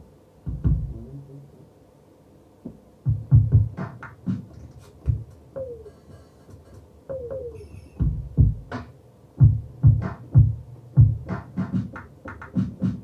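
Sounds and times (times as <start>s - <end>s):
drum machine beat: 0.4s - 1.5s, 2.7s - 13.0s.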